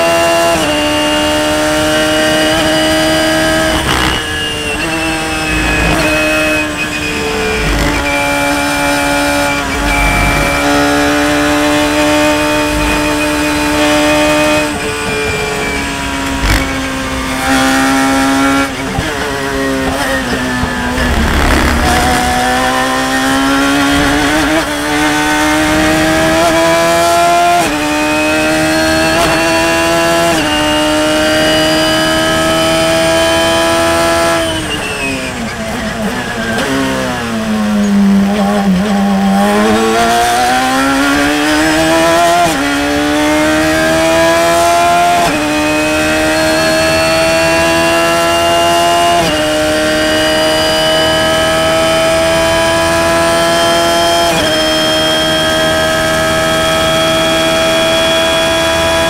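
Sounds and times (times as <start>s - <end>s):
race car engine upshifting: 0.6s - 58.9s.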